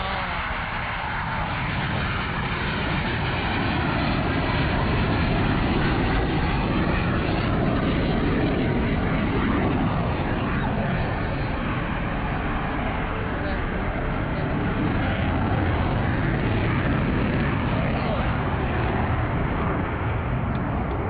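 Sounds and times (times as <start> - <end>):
jet aircraft rushing noise: 0.0 - 21.0.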